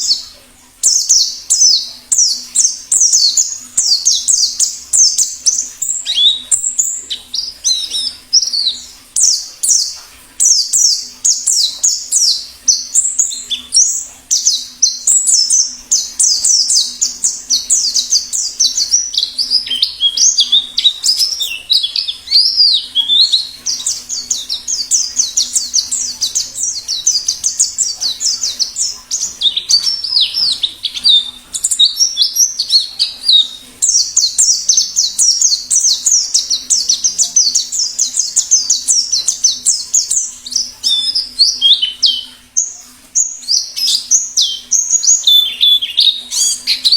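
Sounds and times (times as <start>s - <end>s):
bird twittering chirps: 0.0s - 46.9s.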